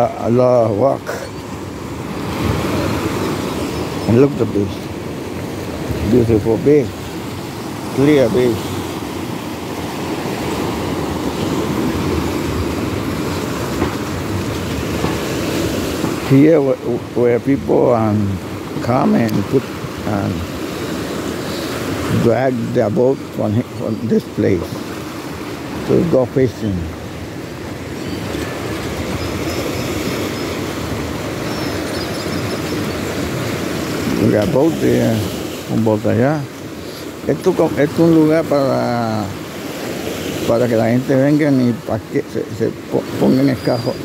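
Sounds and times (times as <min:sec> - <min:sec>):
waves washing against rocks: 0:00.0 - 0:44.0.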